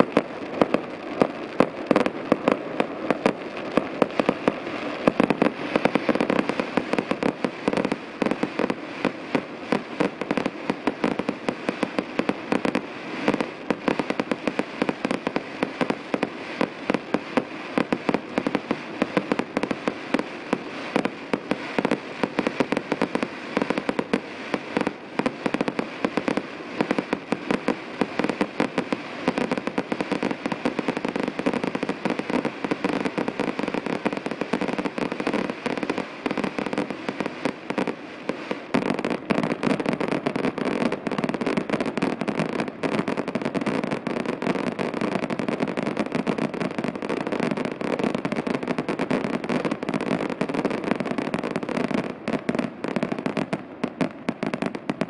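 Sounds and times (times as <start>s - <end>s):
fireworks bursting: 0.0s - 55.0s
sizzling crackle: 0.0s - 55.0s.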